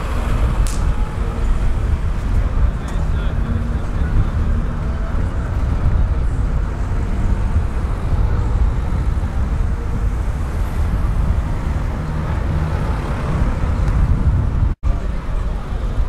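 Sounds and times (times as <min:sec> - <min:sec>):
bus diesel engines rumbling: 0:00.0 - 0:16.0.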